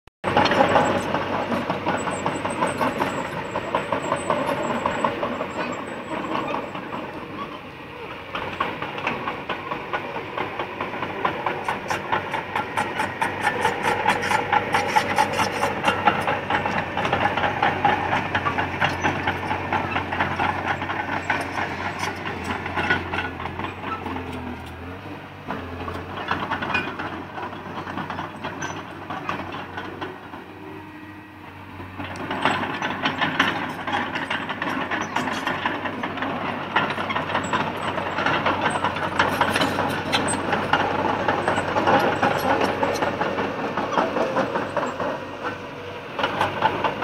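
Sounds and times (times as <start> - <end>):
diesel engine running: 0.2 - 47.0
steel tracks clattering: 0.2 - 47.0.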